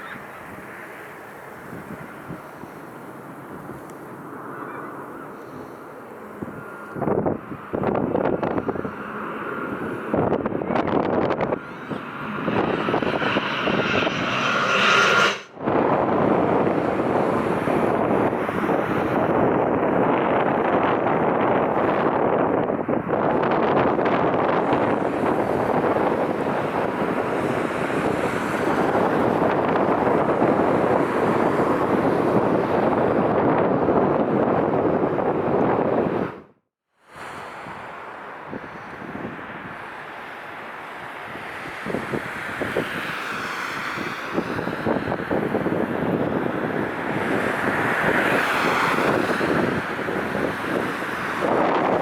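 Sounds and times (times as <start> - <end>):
jet airliner passing: 0.0 - 22.2, 22.8 - 36.4, 37.2 - 52.0
strong wind buffeting microphone: 0.0 - 36.6, 37.2 - 52.0.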